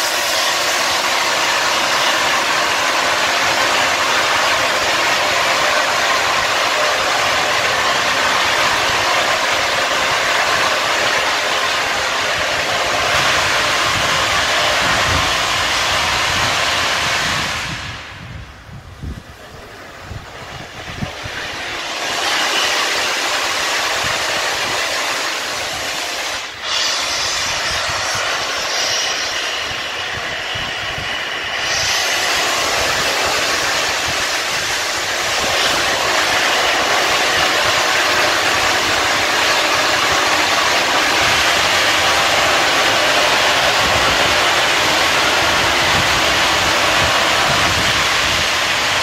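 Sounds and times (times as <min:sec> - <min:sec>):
steam locomotive rush of steam: 0:00.0 - 0:49.0.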